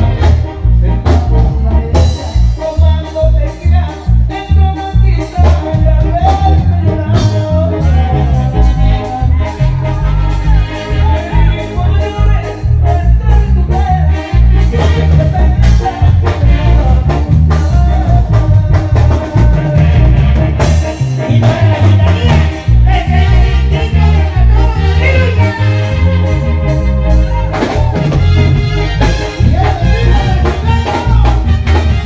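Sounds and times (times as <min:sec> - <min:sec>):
drum kit beat: 0:00.0 - 0:32.0
heavy bass: 0:00.0 - 0:32.0.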